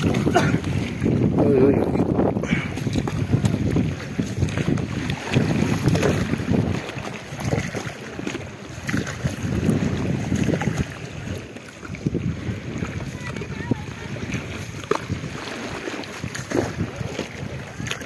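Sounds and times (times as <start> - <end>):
river water sloshing: 0.0 - 18.0
wind buffeting microphone: 0.0 - 18.0.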